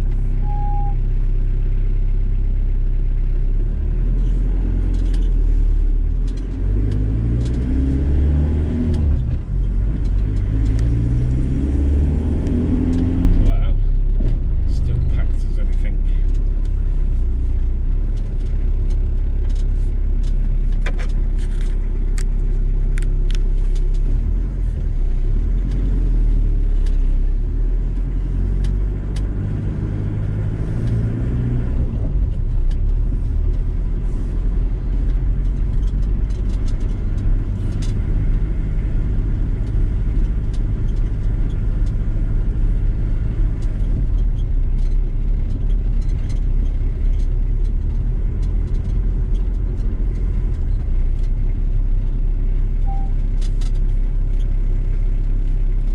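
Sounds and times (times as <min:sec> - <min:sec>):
van engine and road rumble: 0:00.0 - 0:55.9.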